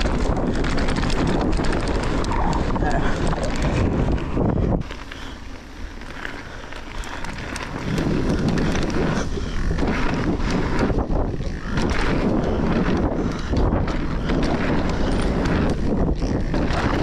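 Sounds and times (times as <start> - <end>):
bike clicks and rattles: 0.0 - 17.0
tyres rumbling on dirt: 0.0 - 17.0
wind buffeting microphone: 0.0 - 17.0.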